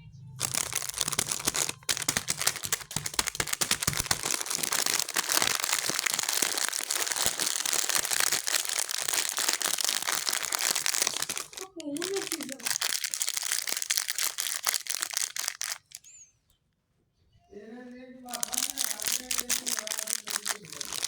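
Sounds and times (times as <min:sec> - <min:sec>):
plastic wrappers crinkling: 0:00.4 - 0:16.1, 0:18.3 - 0:21.0.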